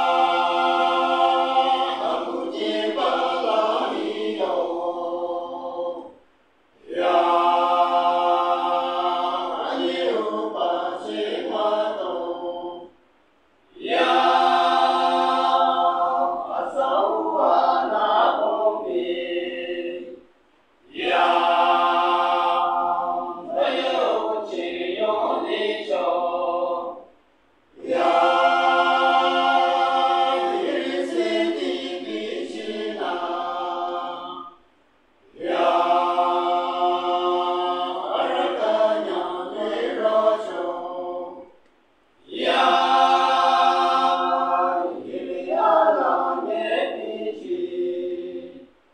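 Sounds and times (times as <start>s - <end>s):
men's choir singing unaccompanied: 0.0s - 6.2s, 6.8s - 13.0s, 13.7s - 41.6s, 42.2s - 48.8s.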